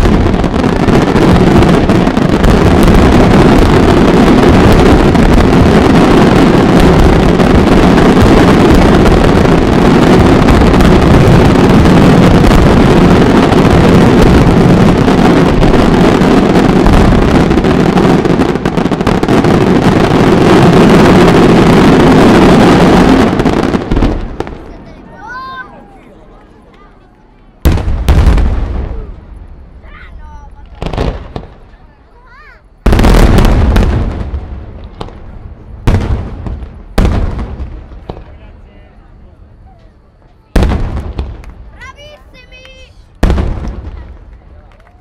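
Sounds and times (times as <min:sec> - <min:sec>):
fireworks bursting: 0:00.0 - 0:45.0.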